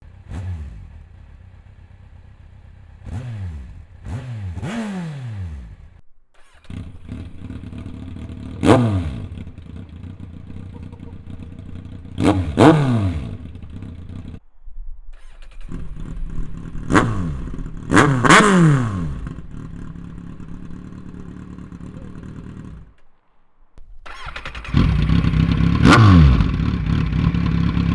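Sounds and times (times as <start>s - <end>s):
motorcycle engine revving: 0.0s - 14.4s, 15.2s - 27.9s.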